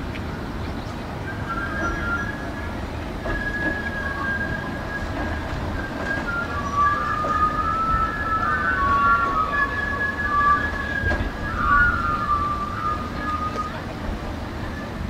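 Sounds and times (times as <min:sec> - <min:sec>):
funicular cars rumbling on rails: 0:00.0 - 0:15.0
high wheel squeal: 0:01.3 - 0:15.0.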